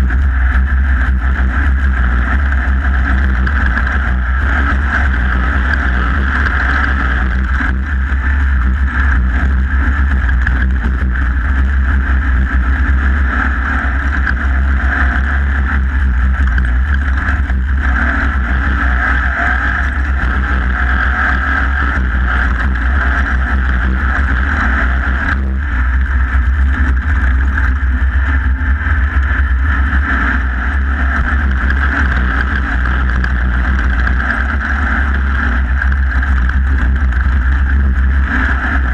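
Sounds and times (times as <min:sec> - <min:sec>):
heavy low rumble: 0:00.0 - 0:38.9
vehicle engine running hard: 0:00.0 - 0:38.9.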